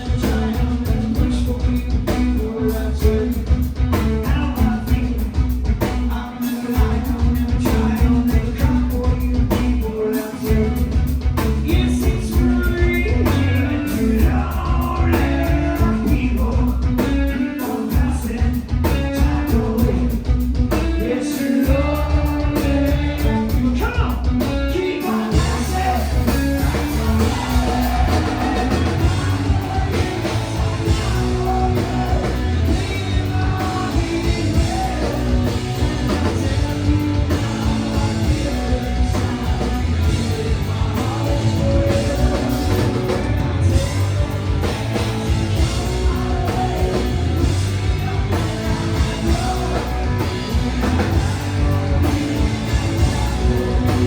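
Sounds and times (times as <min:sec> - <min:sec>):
bass guitar: 0:00.0 - 0:54.0
drums: 0:00.0 - 0:54.0
electric guitars: 0:00.0 - 0:54.0
lead vocal singing: 0:00.0 - 0:54.0.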